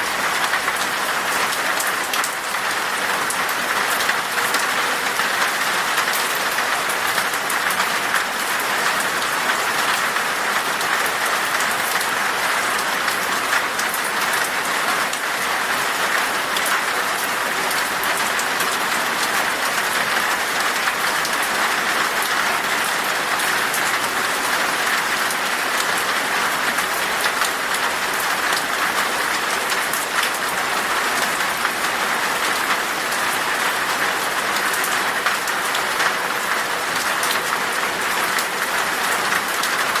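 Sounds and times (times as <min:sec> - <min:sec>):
steady rain in a forest: 0:00.0 - 0:40.0.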